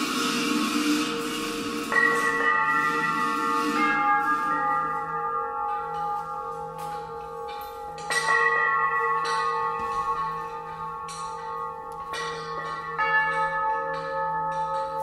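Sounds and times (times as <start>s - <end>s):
struck metal bell tones: 0.1s - 15.0s.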